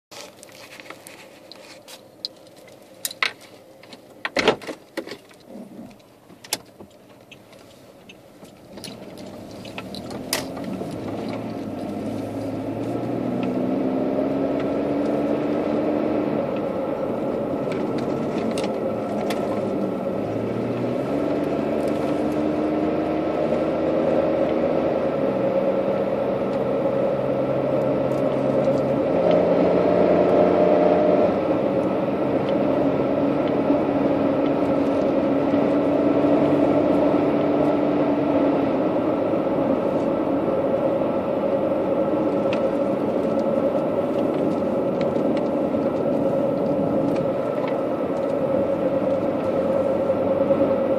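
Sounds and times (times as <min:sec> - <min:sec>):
car engine accelerating: 0:07.0 - 0:50.9.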